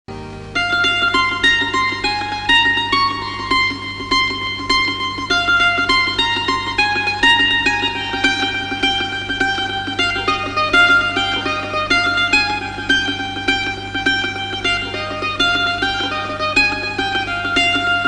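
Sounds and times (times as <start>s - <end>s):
plucked mandolin-like string instrument: 0.1s - 18.0s.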